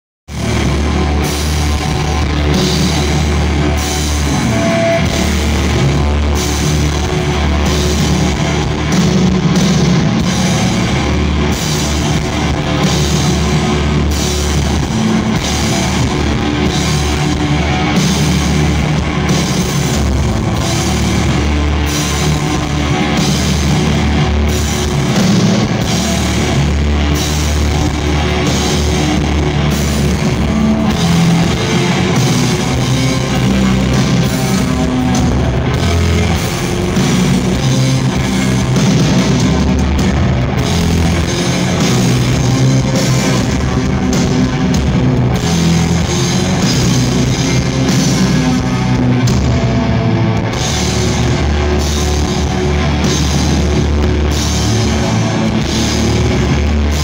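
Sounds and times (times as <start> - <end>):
distorted guitar drone: 0.3 - 57.0.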